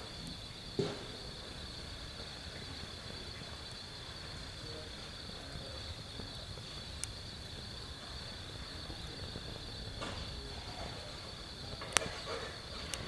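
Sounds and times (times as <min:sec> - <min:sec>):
night insects trilling: 0:00.0 - 0:13.0.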